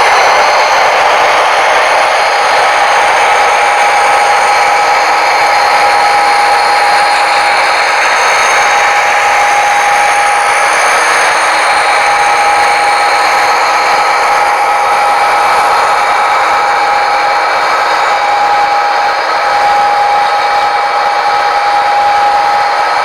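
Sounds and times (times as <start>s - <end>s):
electric motor whine: 0.0s - 23.0s.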